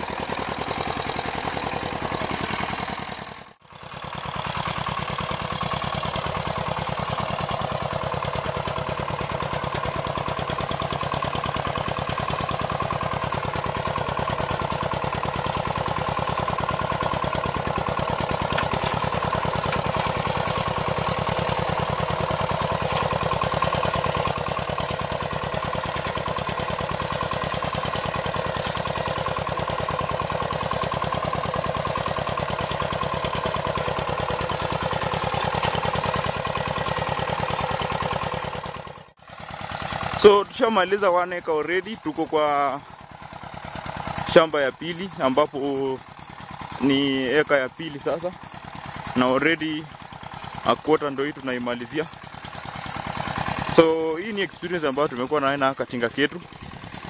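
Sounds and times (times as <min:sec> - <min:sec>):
walking tractor engine running: 0:00.0 - 0:57.0.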